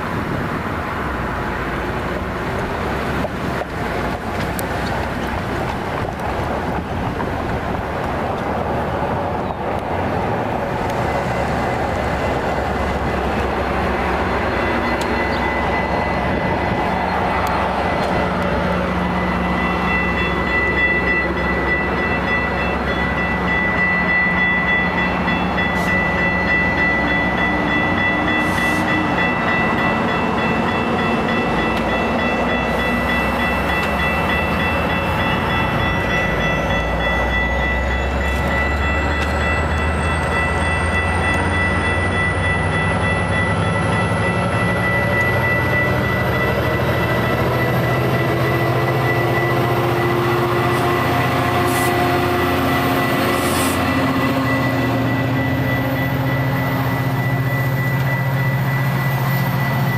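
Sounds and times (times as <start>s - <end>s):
diesel locomotive engine: 0.0s - 59.9s
train wheels rumbling on rail: 0.0s - 59.9s.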